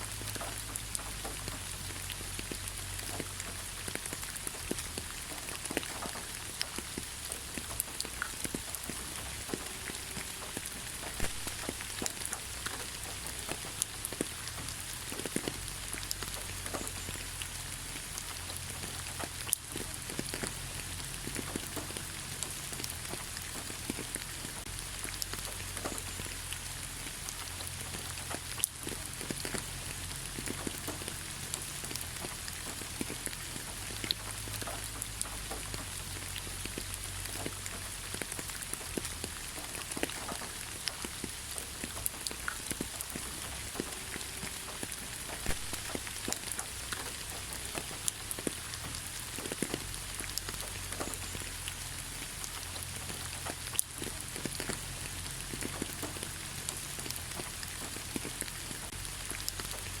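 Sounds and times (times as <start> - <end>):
light rain on leaves: 0.0 - 60.0
raindrops pattering: 0.0 - 60.0.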